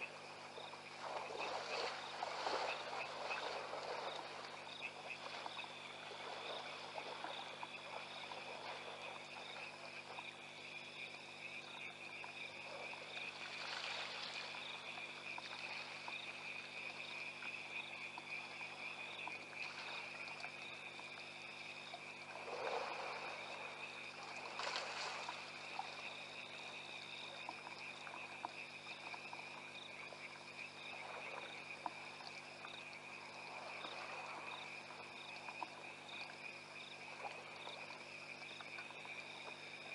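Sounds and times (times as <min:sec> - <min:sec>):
frogs and insects trilling: 0:00.0 - 0:39.9.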